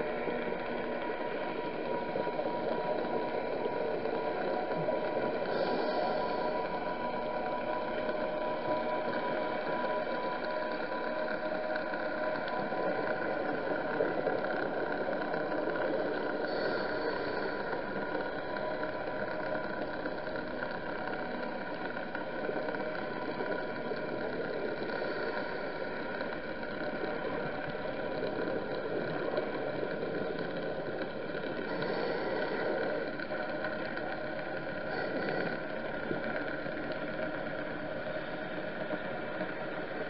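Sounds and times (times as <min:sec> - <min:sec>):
underwater motor drone: 0:00.0 - 0:40.0.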